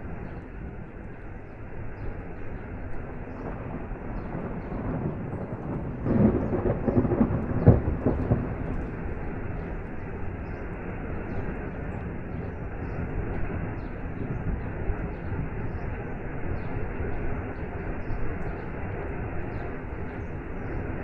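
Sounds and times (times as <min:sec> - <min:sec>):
rain: 0:00.0 - 0:21.0
thunder rumbling: 0:00.0 - 0:21.0.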